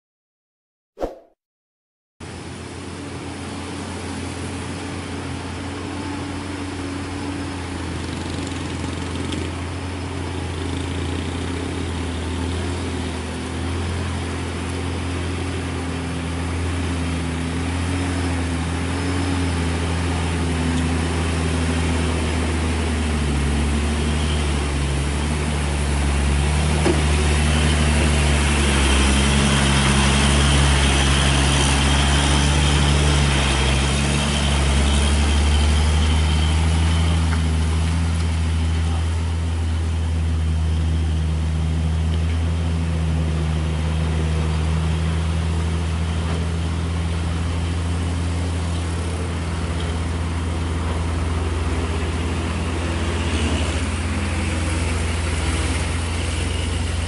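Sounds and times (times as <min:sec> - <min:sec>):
truck diesel engine running: 0:02.4 - 0:57.0.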